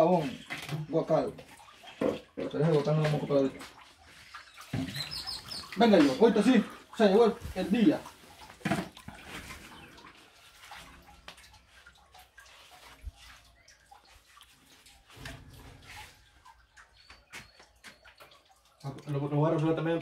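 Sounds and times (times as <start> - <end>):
water sloshing in a basin: 0.0 - 20.0.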